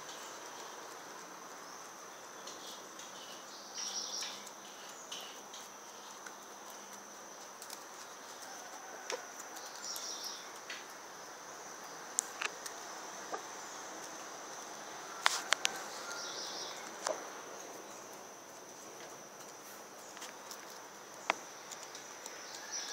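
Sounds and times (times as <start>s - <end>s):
high insect drone: 0.0s - 22.9s.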